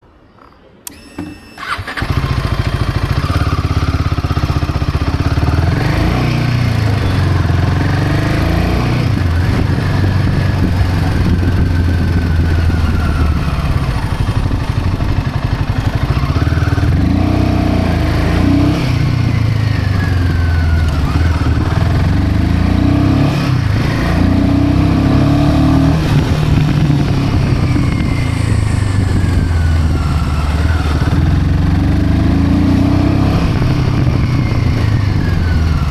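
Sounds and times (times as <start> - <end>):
motorcycle engine revving: 1.6 - 35.9.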